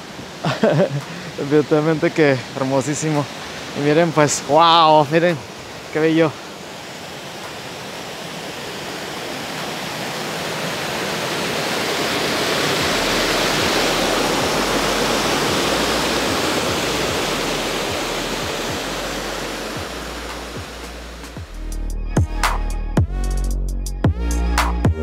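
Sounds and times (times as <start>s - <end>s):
small waterfall rushing: 0.0s - 21.5s.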